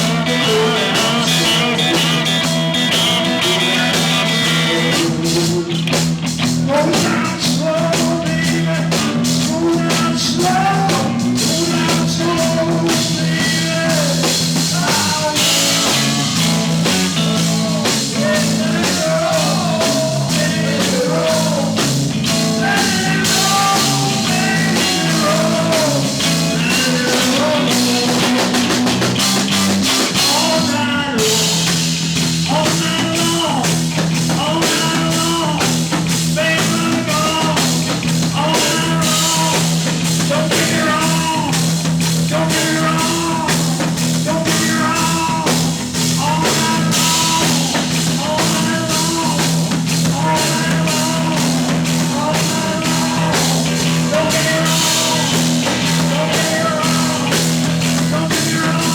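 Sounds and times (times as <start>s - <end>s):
live rock band playing: 0.0s - 58.9s.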